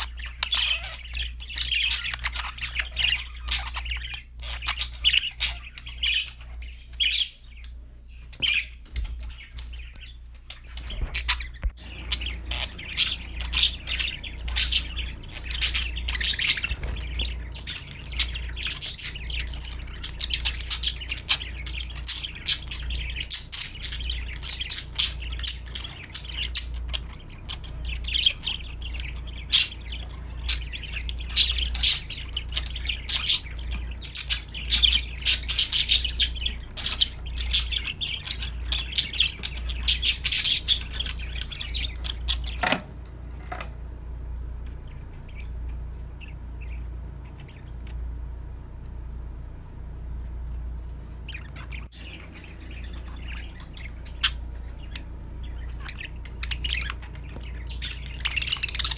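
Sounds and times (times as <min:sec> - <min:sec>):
budgerigars chirping: 0:00.0 - 0:43.6, 0:44.6 - 0:48.2, 0:51.2 - 0:58.9
low steady hum: 0:00.0 - 0:58.9.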